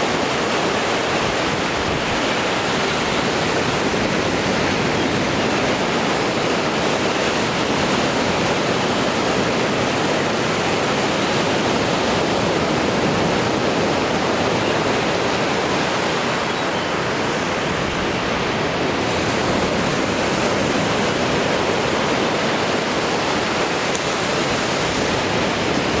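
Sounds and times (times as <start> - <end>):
surf washing onto shore: 0.0 - 26.0.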